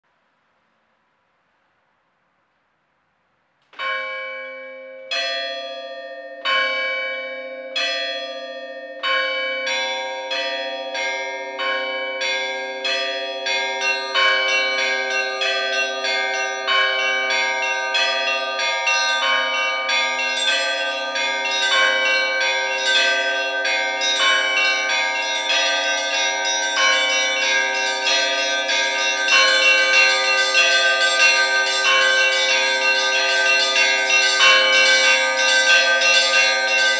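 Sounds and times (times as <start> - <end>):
church bells ringing: 3.8 - 36.9.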